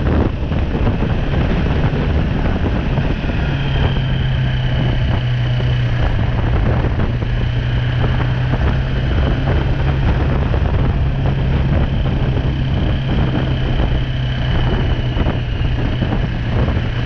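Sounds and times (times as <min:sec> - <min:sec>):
motorcycle engine running steadily: 0:00.0 - 0:17.0
rushing noise: 0:00.0 - 0:17.0.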